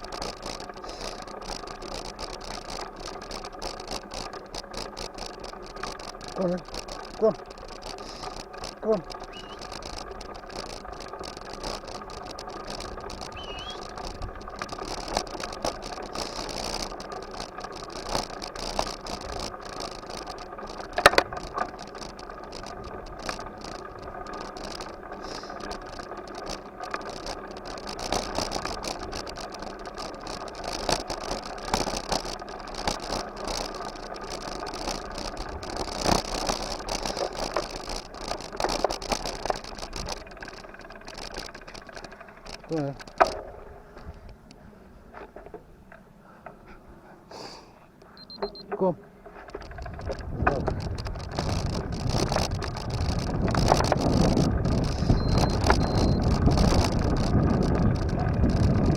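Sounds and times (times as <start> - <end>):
bike rattling: 0.0 - 58.9.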